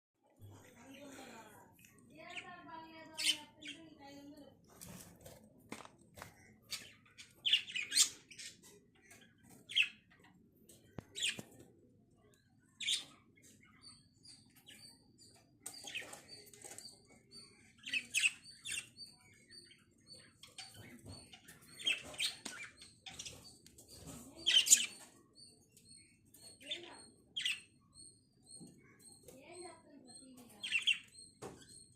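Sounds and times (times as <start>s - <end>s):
lovebirds chirping: 0.3s - 5.4s, 6.1s - 31.9s.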